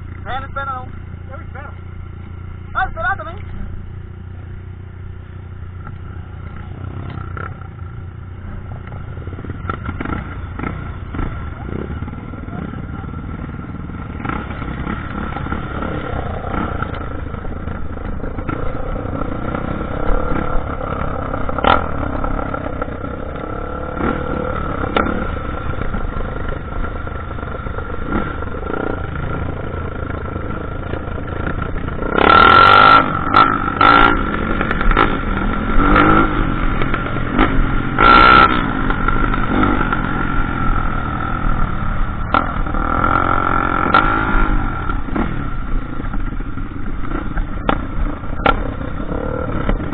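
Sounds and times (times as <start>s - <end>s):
dirt bike engine running: 0.0s - 49.9s.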